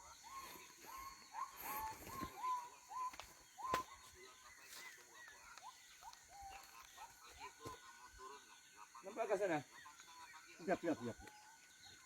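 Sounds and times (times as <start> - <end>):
faint whistled animal calls: 0.0 - 12.0.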